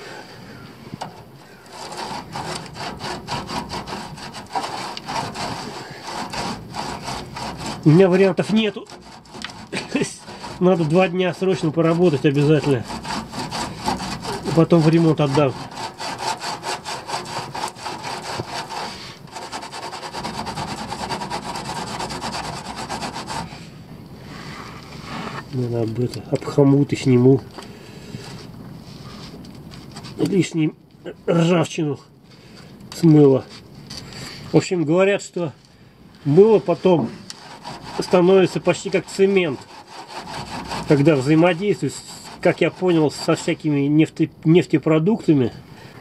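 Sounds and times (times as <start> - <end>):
scraping rusty steel: 0.6 - 30.5, 36.1 - 44.2.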